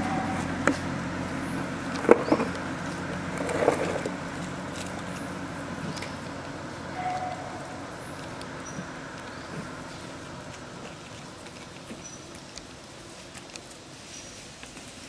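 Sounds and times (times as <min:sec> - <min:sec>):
distant motor vehicle humming: 0:00.0 - 0:15.0.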